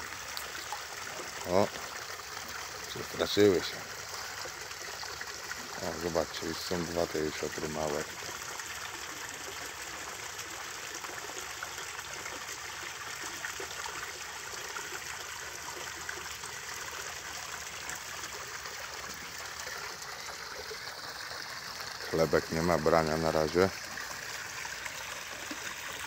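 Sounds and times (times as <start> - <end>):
water trickling into a pond: 0.0 - 26.0.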